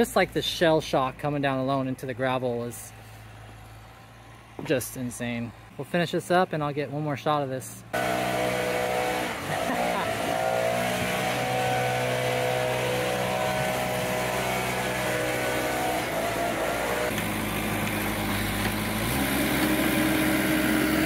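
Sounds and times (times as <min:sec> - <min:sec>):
skid steer engine running: 0:00.0 - 0:06.6, 0:07.2 - 0:21.0.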